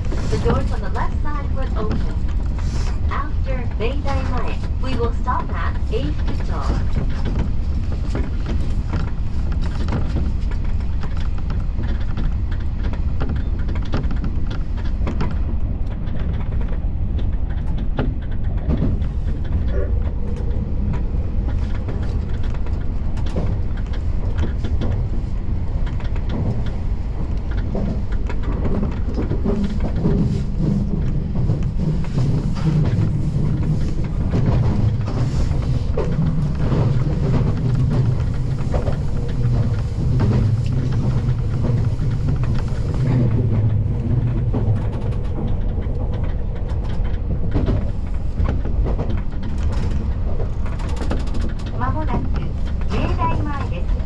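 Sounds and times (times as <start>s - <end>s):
track clicks: 0.0s - 54.0s
train wheels rumbling on rail: 0.0s - 54.0s.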